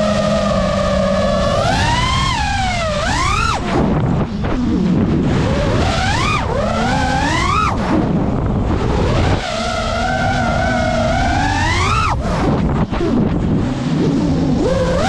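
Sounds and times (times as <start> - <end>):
drone motors whining: 0.0 - 15.0
wind and prop wash rush: 0.0 - 15.0.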